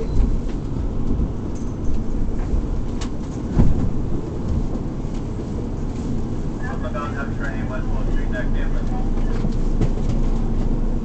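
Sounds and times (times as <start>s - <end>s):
subway car rumbling: 0.0s - 11.0s.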